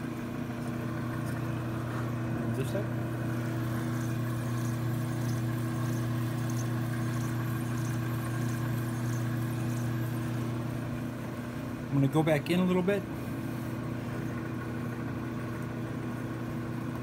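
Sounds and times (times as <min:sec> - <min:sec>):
brake lathe motor hum: 0:00.0 - 0:11.4, 0:13.1 - 0:17.0.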